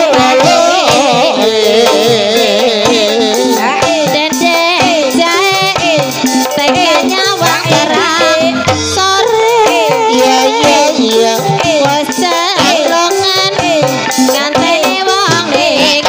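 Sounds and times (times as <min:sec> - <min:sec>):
hand drums beating: 0:00.0 - 0:16.0
ornamented gamelan melody: 0:00.0 - 0:16.0.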